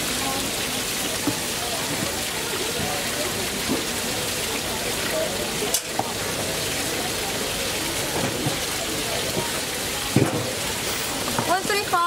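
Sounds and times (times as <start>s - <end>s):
faint voices: 0.0s - 12.0s
oil bubbling in deep fryer: 0.0s - 12.0s.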